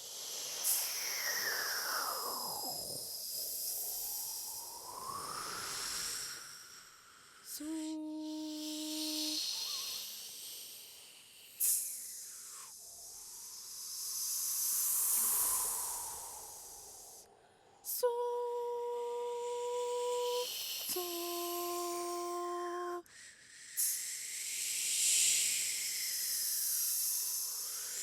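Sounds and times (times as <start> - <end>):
high voices making a windy hiss: 0.0 - 18.1, 18.8 - 28.0.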